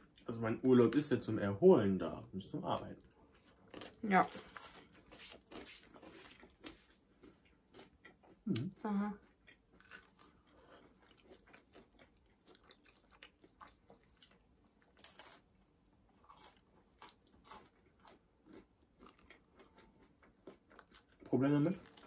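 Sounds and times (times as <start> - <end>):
faint crunchy chewing: 2.8 - 22.0.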